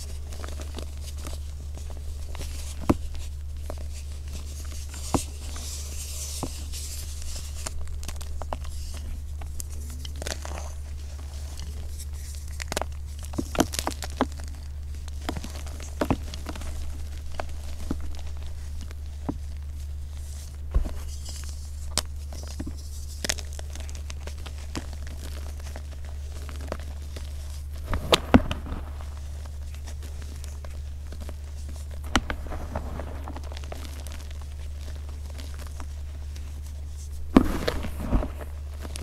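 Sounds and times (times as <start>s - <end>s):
chalk crunching and crackling: 0.0s - 39.0s
steady low hum: 0.0s - 39.0s.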